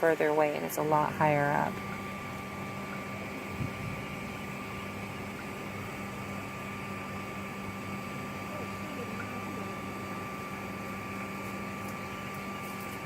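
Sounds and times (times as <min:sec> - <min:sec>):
vacuum humming with whine: 0:00.0 - 0:13.0.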